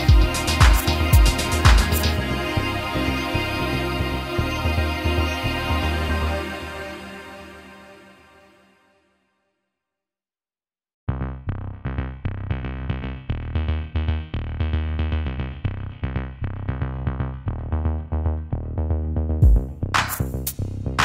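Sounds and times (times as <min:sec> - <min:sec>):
electronic music with heavy bass: 0:00.0 - 0:07.9, 0:11.1 - 0:21.0.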